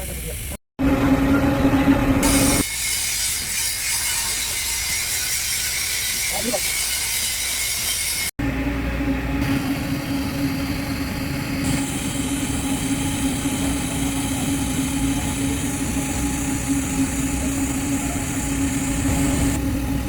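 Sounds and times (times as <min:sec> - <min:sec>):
welding arc buzzing and hissing: 0:02.2 - 0:08.3, 0:09.4 - 0:20.0.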